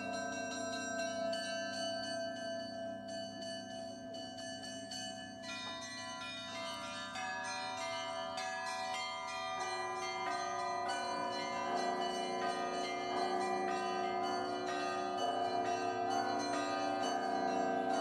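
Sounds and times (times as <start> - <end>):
peal of bells: 0.0 - 18.0.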